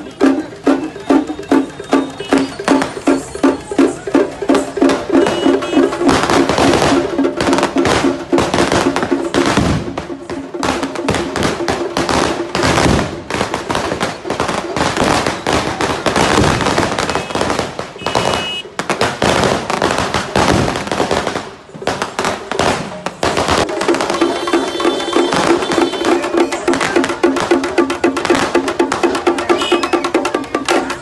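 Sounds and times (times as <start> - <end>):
music: 0.0 - 17.1, 19.7 - 31.0
firecrackers cracking: 4.8 - 31.0.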